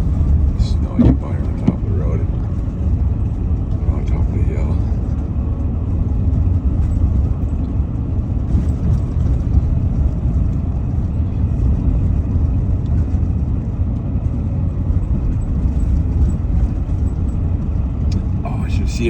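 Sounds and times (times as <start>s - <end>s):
car engine rumble: 0.0s - 19.0s
tyres on snowy road: 0.0s - 19.0s.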